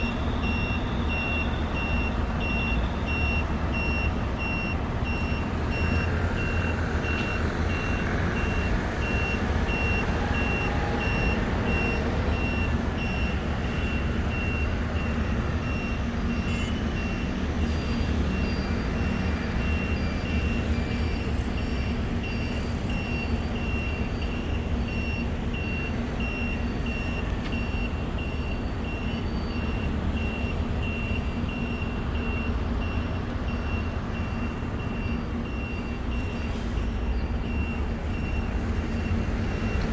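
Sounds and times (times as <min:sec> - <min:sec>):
electronic warning beeps: 0:00.0 - 0:39.9.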